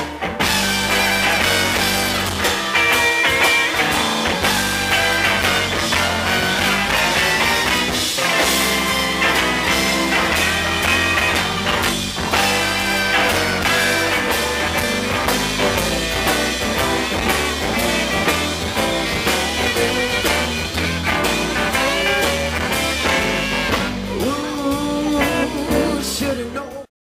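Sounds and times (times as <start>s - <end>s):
drum kit beat: 0.0s - 26.6s
electric guitars: 0.0s - 26.8s
electric bass: 0.0s - 26.9s
tenor saxophone: 0.4s - 24.2s.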